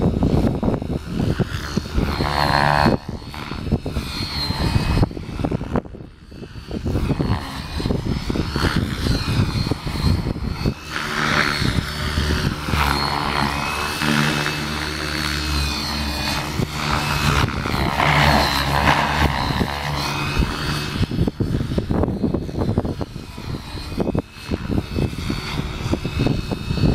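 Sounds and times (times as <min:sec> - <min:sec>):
rc helicopter motor and rotor whine: 0:00.0 - 0:26.9
rotor blade whoosh: 0:00.0 - 0:26.9
wind buffeting microphone: 0:00.0 - 0:26.9.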